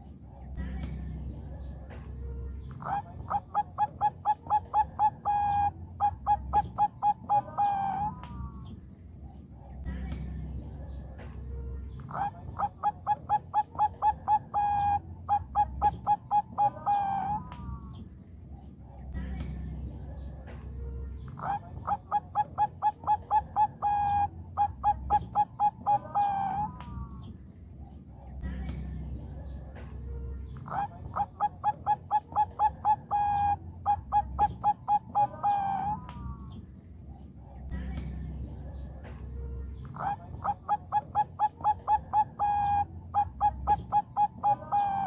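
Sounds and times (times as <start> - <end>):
dove cooing: 0.0 - 45.0.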